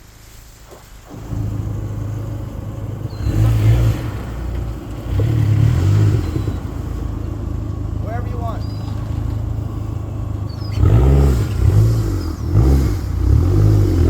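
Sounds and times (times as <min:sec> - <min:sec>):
car engine revving: 0:01.1 - 0:14.0.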